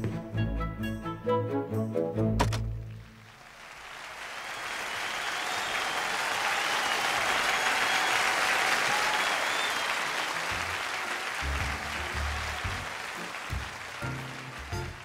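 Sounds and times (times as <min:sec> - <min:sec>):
audience applause: 0:03.0 - 0:15.0.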